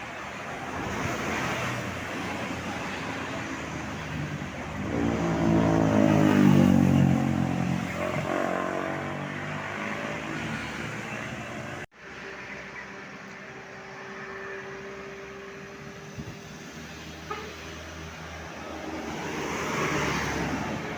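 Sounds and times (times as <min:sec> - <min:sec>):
bus passing: 0:00.0 - 0:20.9.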